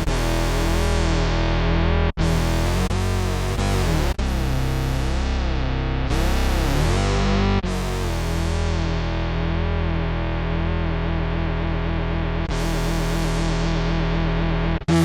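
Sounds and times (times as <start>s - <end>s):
wobbling synth bass notes: 0.0s - 15.0s.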